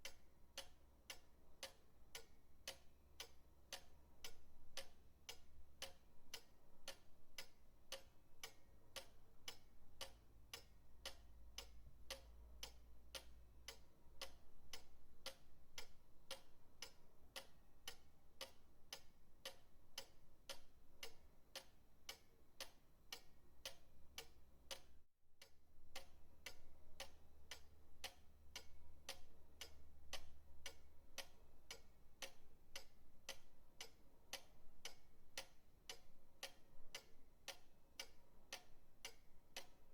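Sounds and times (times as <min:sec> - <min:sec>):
pendulum clock ticking: 0:00.0 - 0:39.9.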